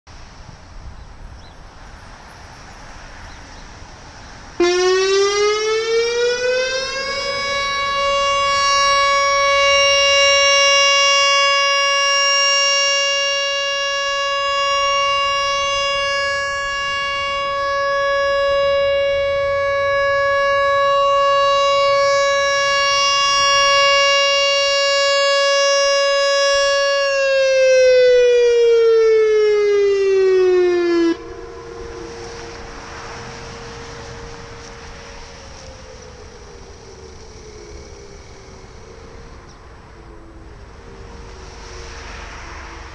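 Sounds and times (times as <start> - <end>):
outdoor warning siren: 1.2 - 42.9.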